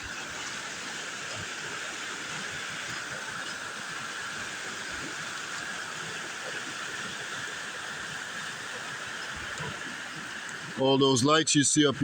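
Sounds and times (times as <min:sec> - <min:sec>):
water rushing over small waterfall: 0:00.0 - 0:12.0.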